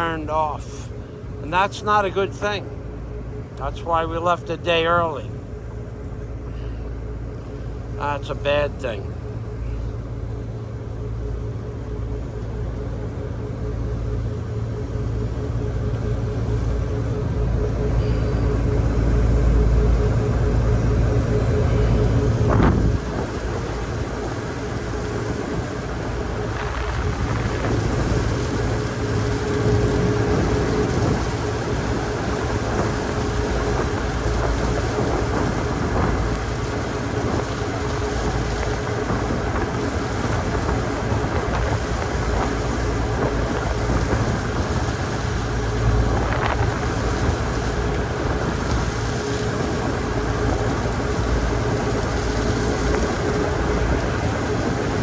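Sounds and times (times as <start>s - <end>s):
rushing sea: 0.0s - 55.0s
ship engines droning: 0.0s - 55.0s
wind: 0.0s - 55.0s.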